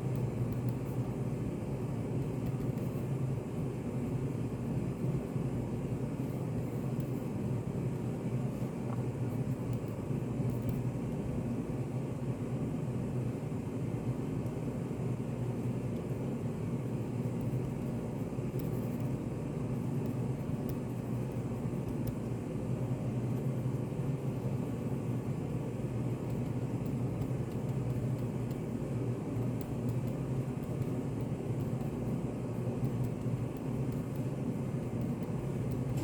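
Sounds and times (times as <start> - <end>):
low rumbling room noise: 0.0 - 36.0.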